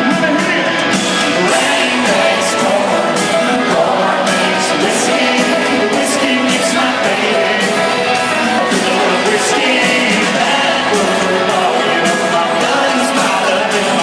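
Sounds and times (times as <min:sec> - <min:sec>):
live country band playing: 0:00.0 - 0:14.0
person singing: 0:00.0 - 0:14.0.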